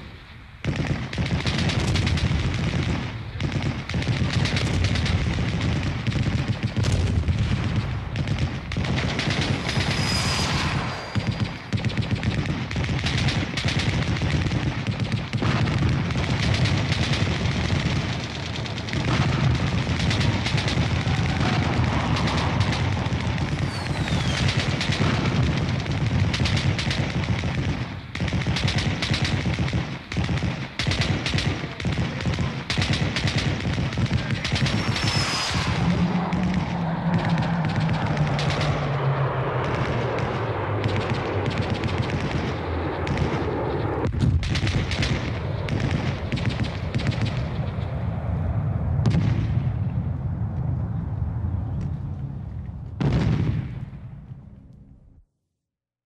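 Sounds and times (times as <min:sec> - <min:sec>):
machine-gun fire: 0:00.6 - 0:47.7.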